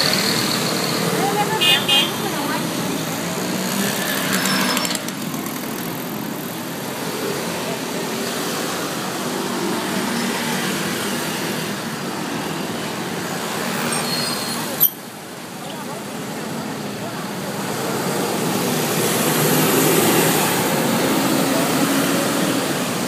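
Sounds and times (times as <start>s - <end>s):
traffic passing slowly: 0.0s - 23.0s.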